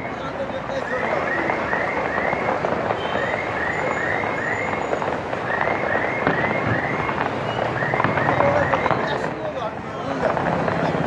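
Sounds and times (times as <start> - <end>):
distant fireworks bangs: 0.0 - 11.0.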